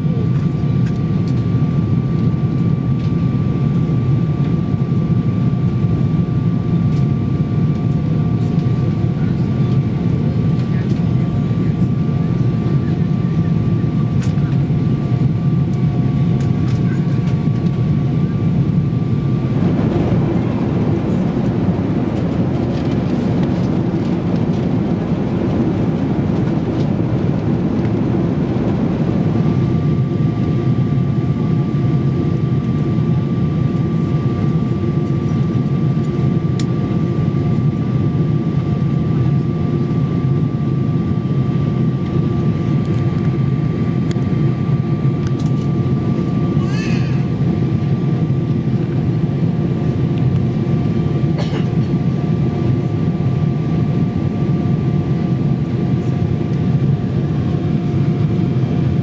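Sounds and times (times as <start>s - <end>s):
airflow rush and engine drone: 0.0s - 59.0s
engine whine: 0.0s - 59.0s.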